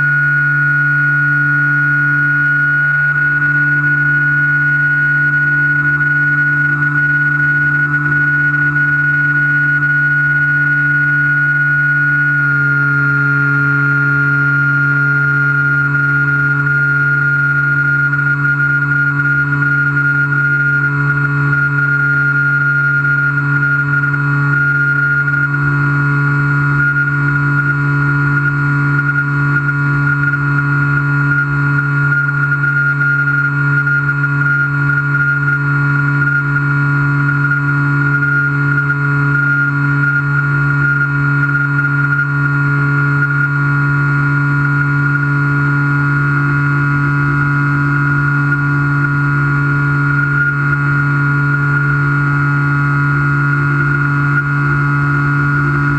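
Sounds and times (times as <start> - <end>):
electric motor and propeller whine: 0.0 - 55.9.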